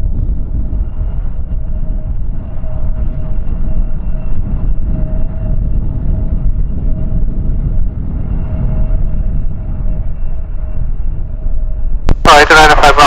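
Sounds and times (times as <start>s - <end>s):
aircraft engine whine: 0.0s - 13.0s
wind buffeting microphone: 0.0s - 13.0s.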